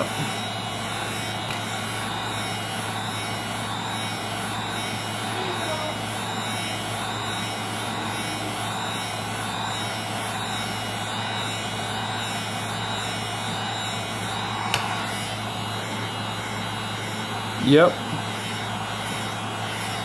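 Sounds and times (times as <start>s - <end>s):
blower whirring: 0.0s - 20.0s.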